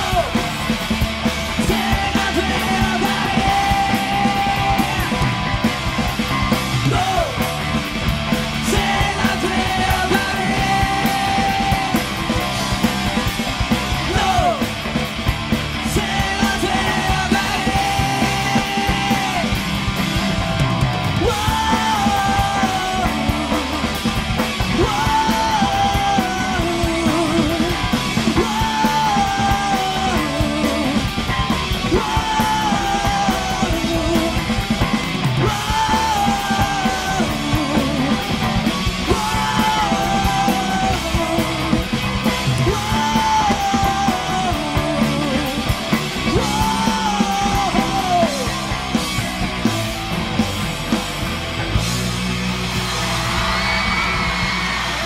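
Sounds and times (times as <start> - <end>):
man singing: 0.0 - 0.7, 1.5 - 7.7, 8.4 - 14.9, 15.7 - 49.0
drums: 0.0 - 55.0
electric guitar: 0.0 - 55.0.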